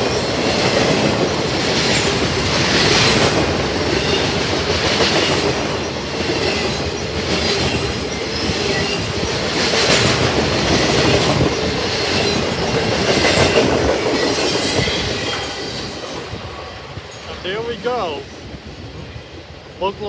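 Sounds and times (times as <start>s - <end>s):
train wheels clattering over rails: 0.0s - 17.4s.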